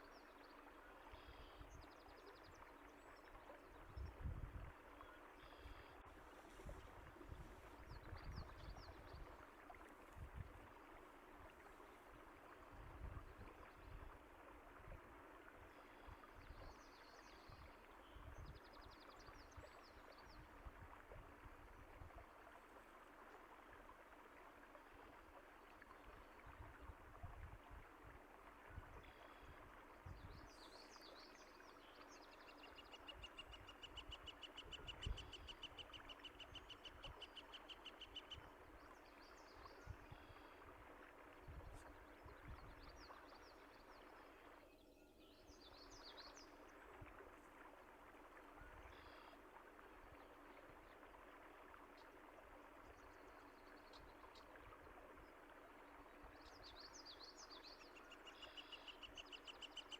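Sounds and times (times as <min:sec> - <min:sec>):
flowing water gurgling: 0:00.0 - 0:59.9.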